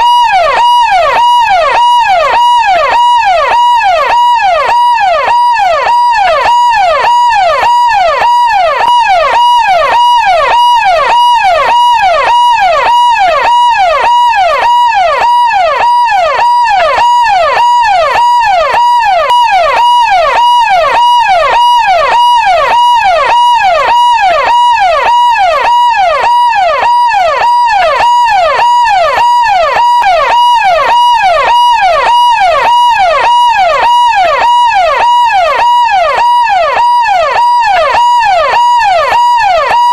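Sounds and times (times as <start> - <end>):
electronic police siren: 0.0 - 39.9.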